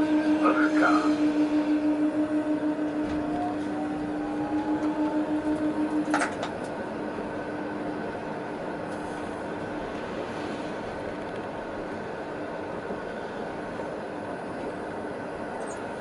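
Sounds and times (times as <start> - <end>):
tram electric whine: 0.0 - 16.0
tram running noise: 0.0 - 16.0.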